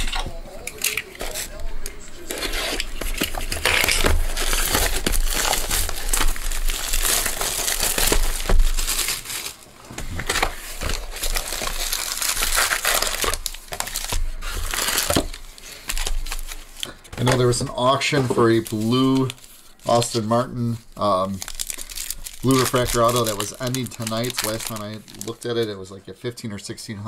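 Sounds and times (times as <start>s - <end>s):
plastic shrink-wrap crinkling: 0.0s - 25.8s
rustling of box and card packs: 0.0s - 25.9s.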